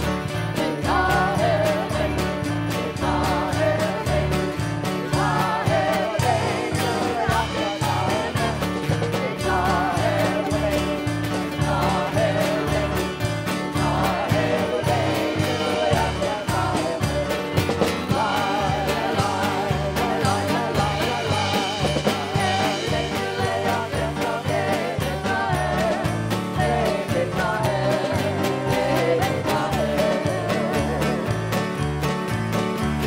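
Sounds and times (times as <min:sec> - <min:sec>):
voices singing: 0:00.0 - 0:31.8
upbeat worship music: 0:00.0 - 0:33.0.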